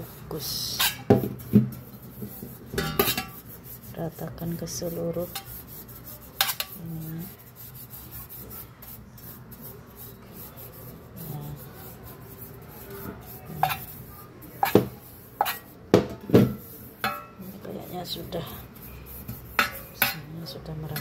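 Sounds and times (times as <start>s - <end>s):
brush rubbing metal pan: 0.0s - 15.8s, 16.5s - 21.0s.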